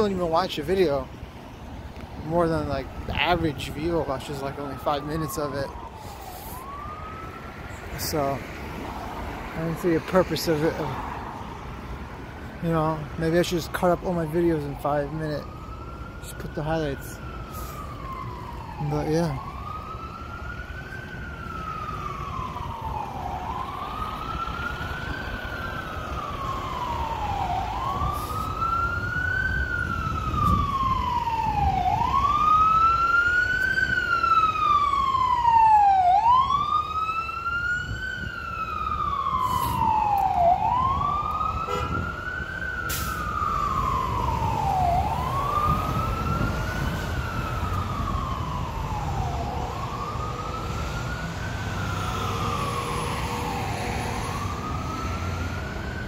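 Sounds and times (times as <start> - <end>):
road traffic rumble: 0.0 - 56.0
siren wailing: 1.9 - 12.0, 12.6 - 56.0.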